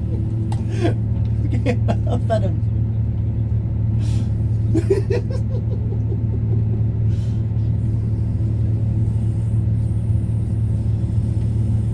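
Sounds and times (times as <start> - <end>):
tractor engine running: 0.0 - 11.9.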